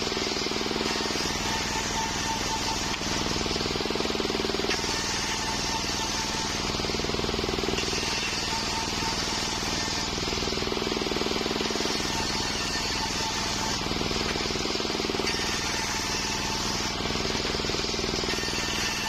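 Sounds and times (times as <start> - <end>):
circular sawmill running: 0.0 - 19.0.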